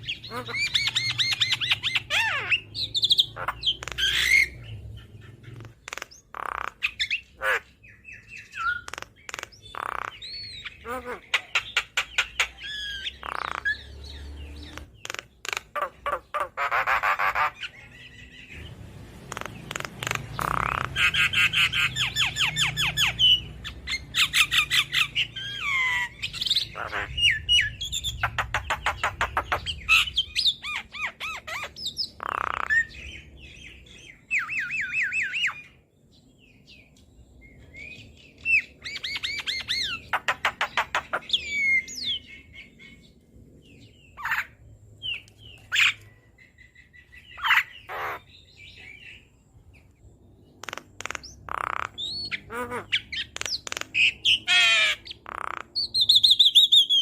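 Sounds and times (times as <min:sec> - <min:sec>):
myna bird chattering and squawking: 0:00.0 - 0:35.8, 0:37.8 - 0:43.1, 0:44.0 - 0:49.8, 0:50.4 - 0:57.0.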